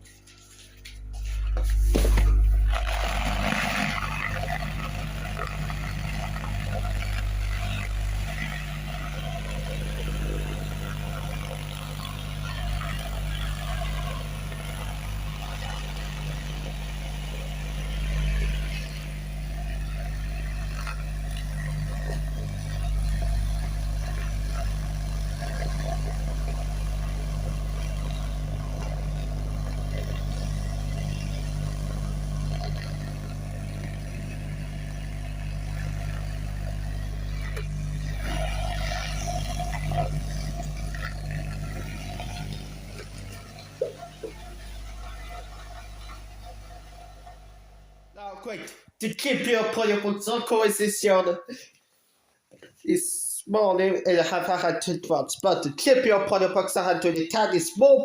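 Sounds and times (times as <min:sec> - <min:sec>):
deep bass notes from speaker: 0:00.8 - 0:48.3.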